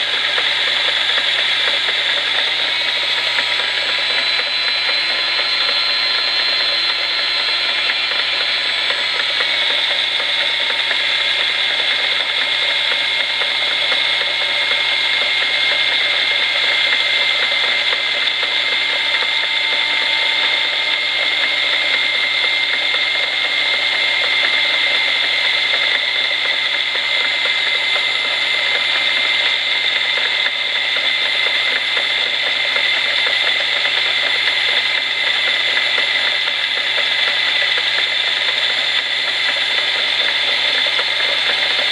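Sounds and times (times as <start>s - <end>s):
die grinder whining: 0.0s - 41.9s
lathe running: 0.0s - 41.9s.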